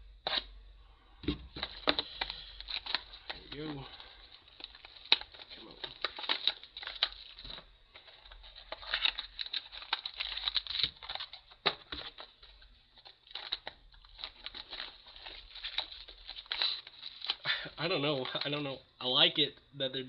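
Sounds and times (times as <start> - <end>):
packaging crinkling and tearing: 1.6 - 18.7.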